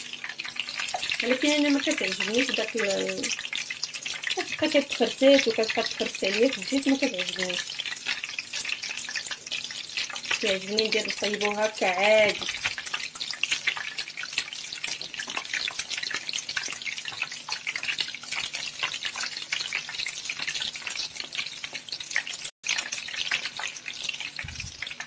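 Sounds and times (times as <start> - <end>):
bread sizzling in hot oil: 0.0 - 25.0.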